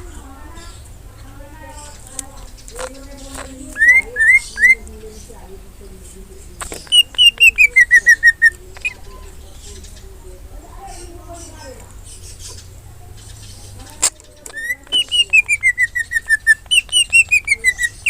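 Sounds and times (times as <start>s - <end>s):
bird singing: 0.0s - 18.0s.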